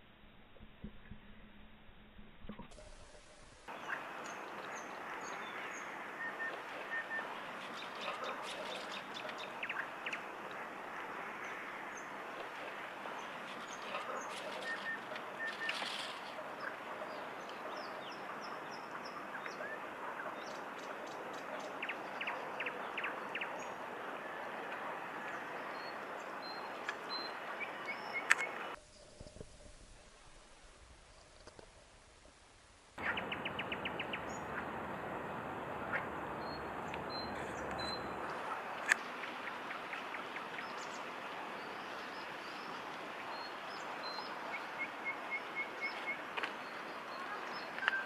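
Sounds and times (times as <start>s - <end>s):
steady background hiss: 0.0s - 48.0s
small birds chirping: 2.8s - 29.4s, 33.0s - 34.8s, 35.8s - 48.0s.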